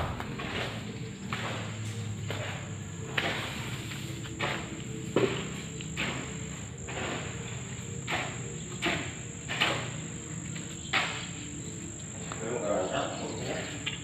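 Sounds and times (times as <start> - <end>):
high insect trill: 0.0 - 14.0.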